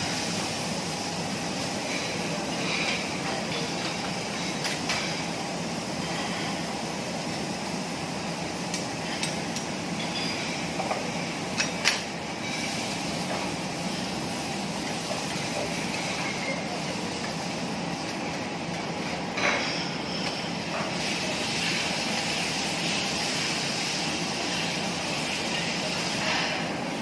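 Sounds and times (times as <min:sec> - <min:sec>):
food sizzling on griddle: 0:00.0 - 0:27.0.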